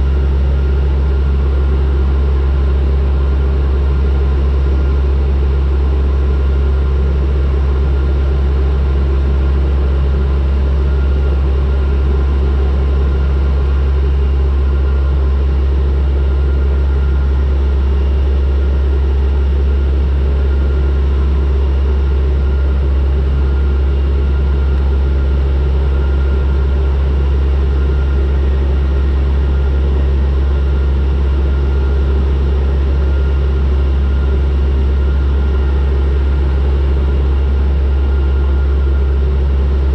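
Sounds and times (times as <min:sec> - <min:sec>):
high engine whine: 0:00.0 - 0:39.9.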